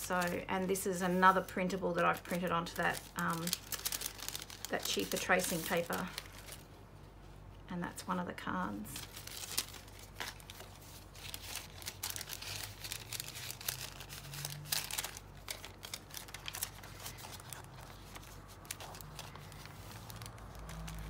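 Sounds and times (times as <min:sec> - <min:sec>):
paper rustling and crinkling: 0:00.0 - 0:06.7, 0:09.0 - 0:21.0.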